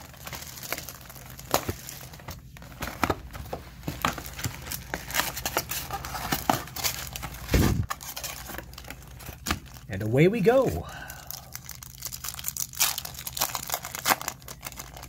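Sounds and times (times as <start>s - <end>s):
foil wrappers crinkling: 0.0s - 15.0s.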